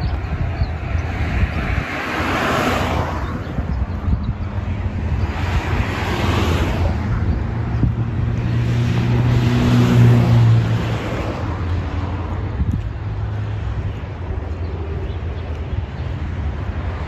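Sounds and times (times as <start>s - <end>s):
car tyres rushing on road: 0.0s - 17.0s
engine hum: 0.0s - 17.0s
wind buffeting microphone: 0.0s - 17.0s.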